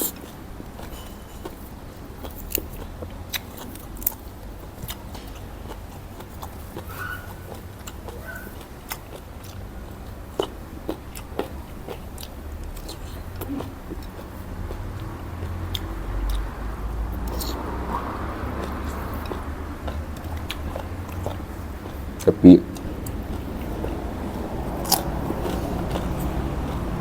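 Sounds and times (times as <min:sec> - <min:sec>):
person chewing: 0:00.0 - 0:27.0
mouth smacks and clicks: 0:02.2 - 0:27.0.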